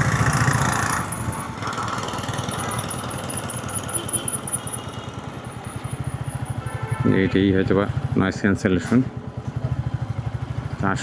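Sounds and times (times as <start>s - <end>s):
motorcycle engine running: 0.0s - 8.4s, 9.1s - 11.0s
traffic noise: 0.0s - 11.0s.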